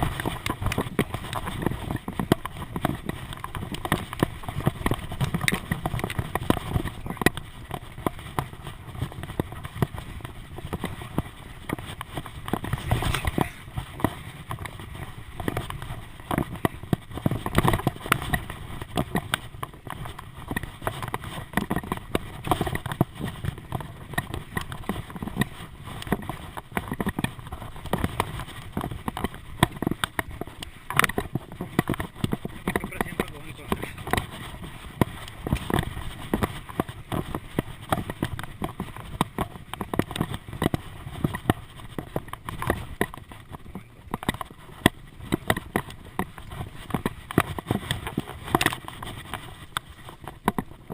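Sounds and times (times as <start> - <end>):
bicycle rattling and knocking: 0.0 - 50.9.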